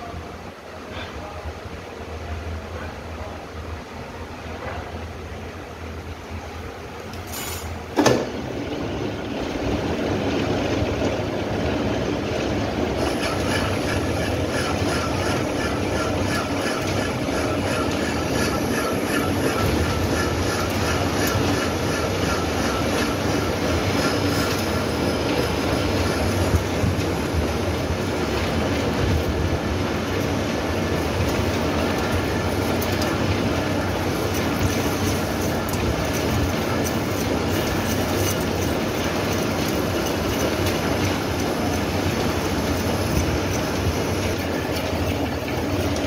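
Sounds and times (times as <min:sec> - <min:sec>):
lathe running with rhythmic clatter: 0:01.7 - 0:46.0.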